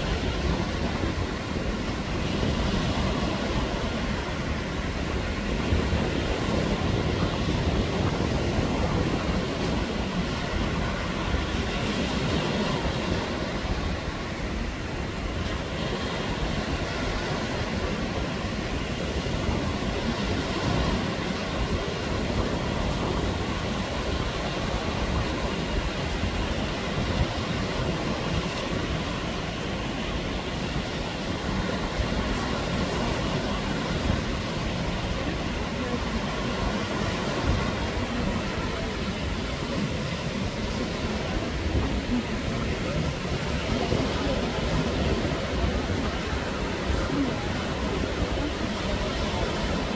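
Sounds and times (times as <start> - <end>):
surf breaking on a beach: 0.0 - 49.9.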